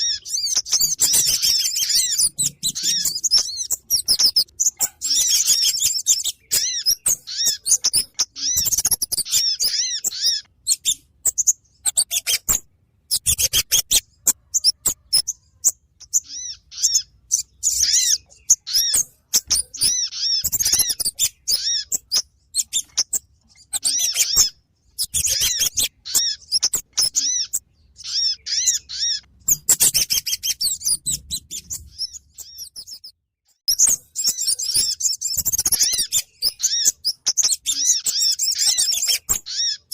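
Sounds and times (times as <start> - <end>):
high chirping bird calls: 0.0 - 39.9
sharp ticking bird notes: 0.0 - 39.9.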